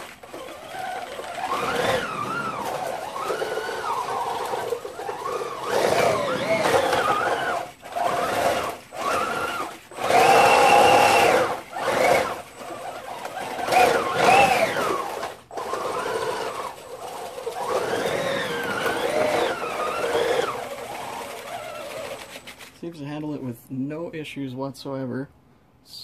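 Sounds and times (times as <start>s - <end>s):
electric motor whining: 0.0s - 22.6s.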